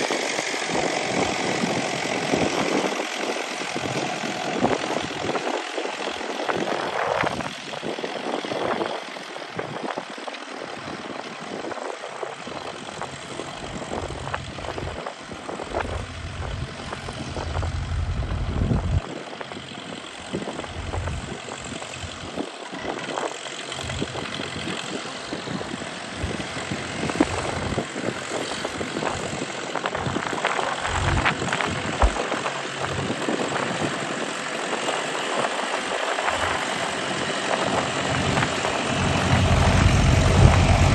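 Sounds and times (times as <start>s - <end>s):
tractor diesel engine rumbling: 0.0s - 40.9s.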